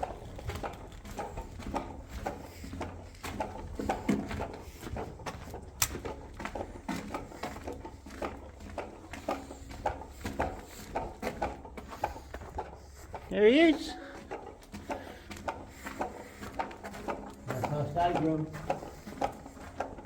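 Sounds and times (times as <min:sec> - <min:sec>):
footsteps in concrete tunnel: 0:00.0 - 0:20.0.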